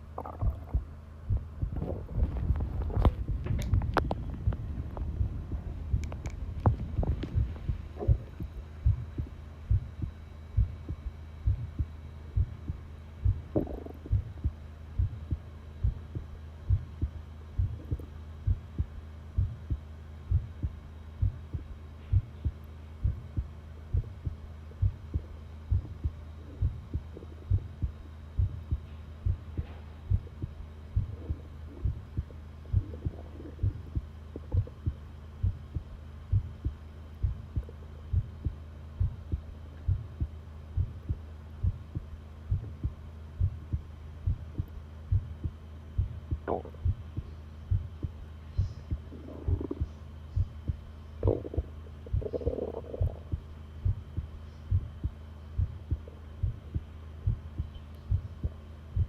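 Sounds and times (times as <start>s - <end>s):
heartbeat thumps: 0.0s - 59.0s
low hum: 0.0s - 59.0s.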